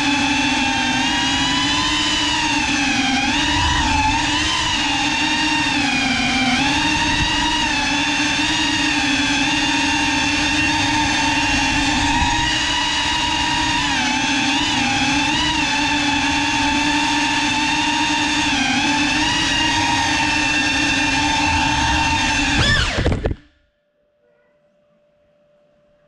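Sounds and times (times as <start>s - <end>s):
drone motors whining: 0.0s - 23.6s.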